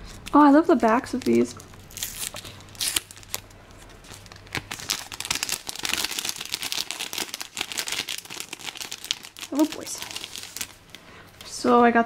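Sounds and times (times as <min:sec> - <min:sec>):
plastic sleeve crinkling: 0:00.0 - 0:11.6.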